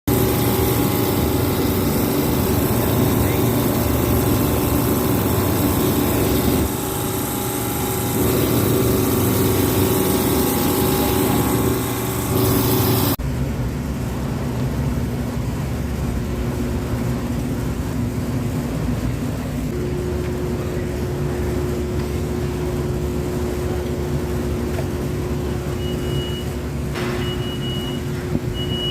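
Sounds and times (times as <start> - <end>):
refrigeration machinery hum: 0.1 - 28.9.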